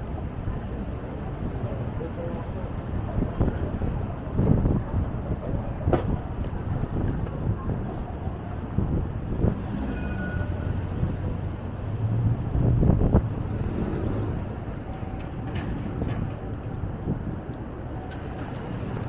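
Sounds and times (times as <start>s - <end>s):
wind buffeting microphone: 0.0s - 9.8s, 12.4s - 19.0s
street traffic rumble: 0.0s - 19.0s.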